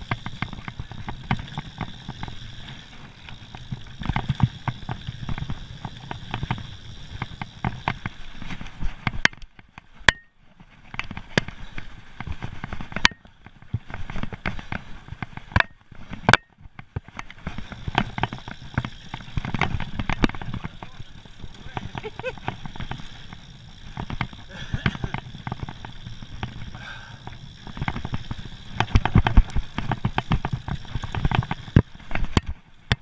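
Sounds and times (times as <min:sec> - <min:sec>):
mountain bike clattering over stones: 0:00.0 - 0:33.0.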